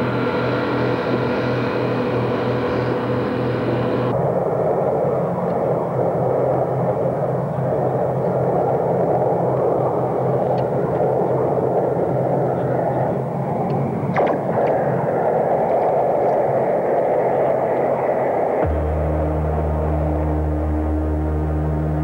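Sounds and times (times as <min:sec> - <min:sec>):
low hum: 0:00.0 - 0:22.0
machine engine drone: 0:00.0 - 0:22.0.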